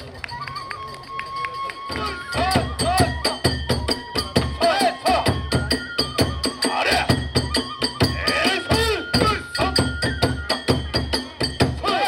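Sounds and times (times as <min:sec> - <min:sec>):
small hand cymbals: 0:00.0 - 0:11.9
bamboo flute: 0:00.0 - 0:12.0
drums beating fast rhythm: 0:01.8 - 0:12.0.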